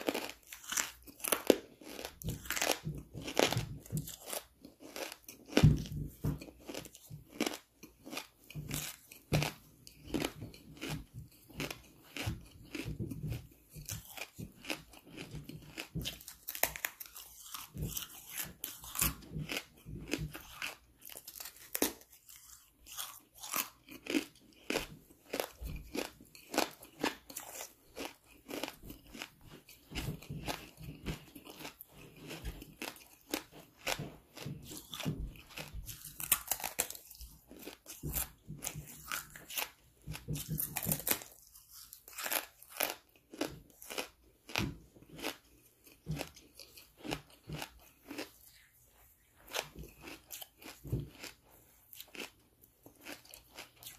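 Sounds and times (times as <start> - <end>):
charcoal crunching when chewed: 0.0 - 53.9.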